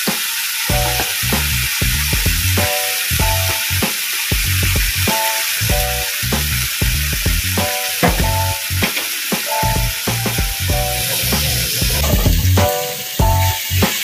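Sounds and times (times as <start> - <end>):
meat sizzling in a wok: 0.0 - 14.0
background music with bass beat: 0.7 - 8.9, 9.5 - 14.0.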